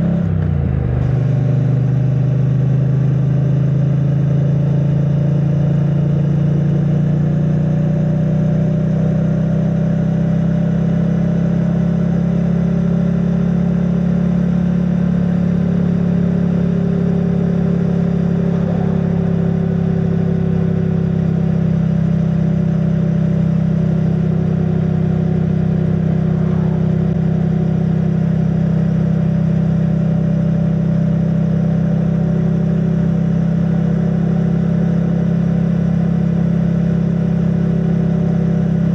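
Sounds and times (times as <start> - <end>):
muffled motorcycle engine running: 0.0 - 38.9.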